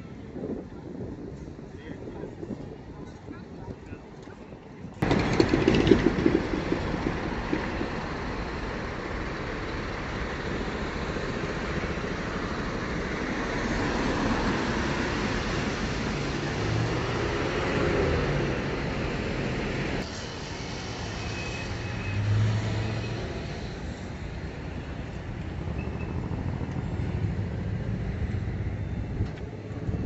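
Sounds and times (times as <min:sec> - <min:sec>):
traffic tyres and engines rushing: 0:00.0 - 0:30.0.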